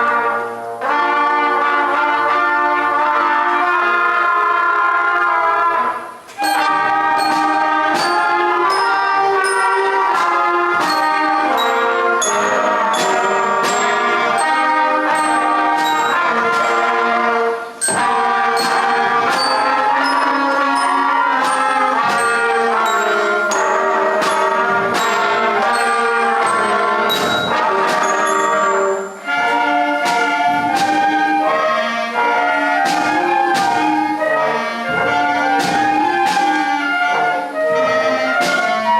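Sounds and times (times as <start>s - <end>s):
brass sustained chords: 0.0s - 38.9s
concert band playing: 0.0s - 38.9s.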